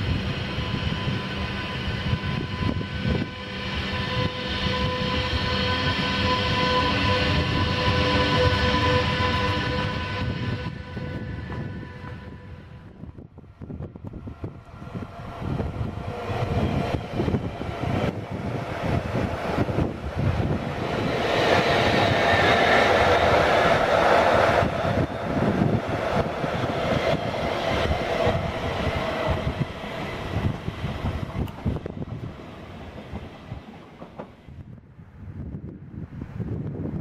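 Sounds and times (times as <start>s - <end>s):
electric train rumbling past: 0.0s - 37.0s.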